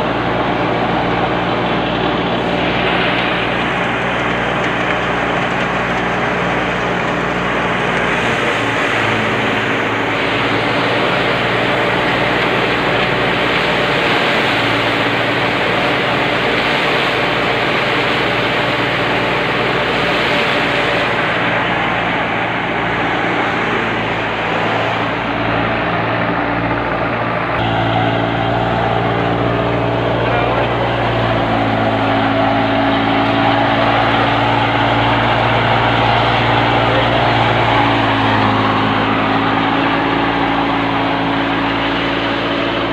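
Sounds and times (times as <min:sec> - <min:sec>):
thresher running: 0:00.0 - 0:42.9
tractor diesel engine: 0:00.0 - 0:42.9.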